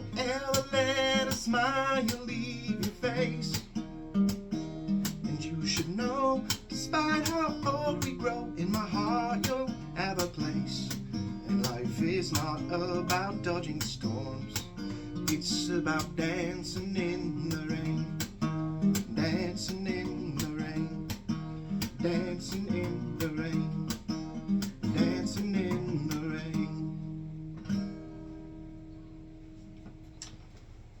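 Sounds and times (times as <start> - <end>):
acoustic guitar strumming: 0.0 - 29.6.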